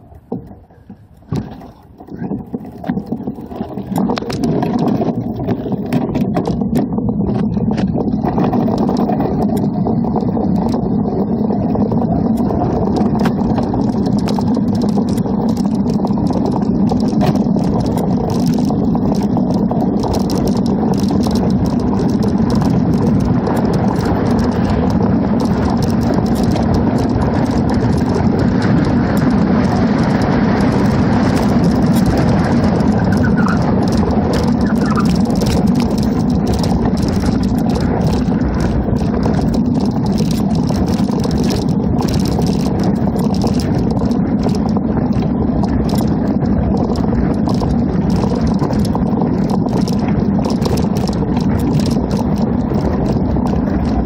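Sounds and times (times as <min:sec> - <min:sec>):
bicycle tyres rolling: 0:00.0 - 0:54.0
wind rushing on microphone: 0:00.0 - 0:54.0
clicks and rattles: 0:00.1 - 0:10.9, 0:12.3 - 0:54.0.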